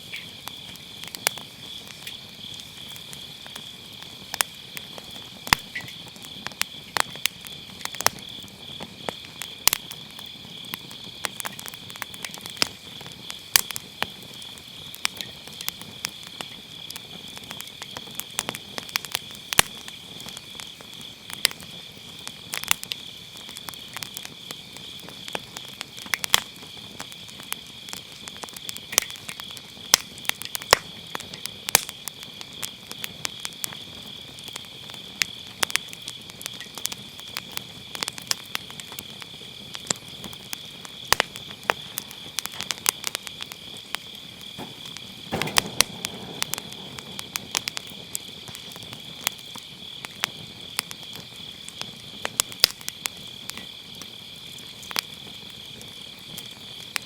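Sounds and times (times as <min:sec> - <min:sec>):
firewood crackling and popping: 0:00.0 - 0:57.0
insects chirping: 0:00.0 - 0:57.0.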